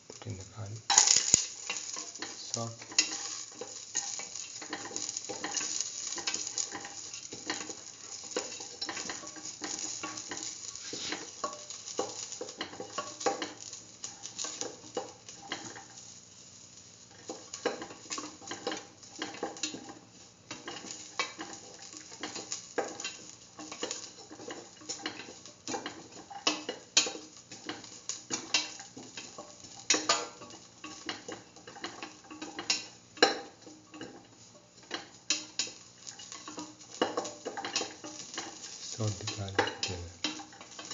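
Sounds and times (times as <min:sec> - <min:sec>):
onions sizzling in oil: 0:00.0 - 0:40.9.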